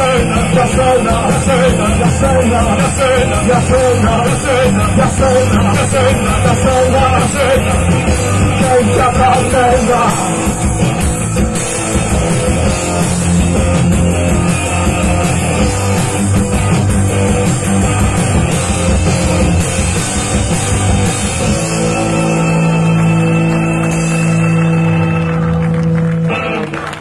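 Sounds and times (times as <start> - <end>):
drums: 0.0 - 27.0
electric guitar: 0.0 - 27.0
keyboard: 0.0 - 27.0.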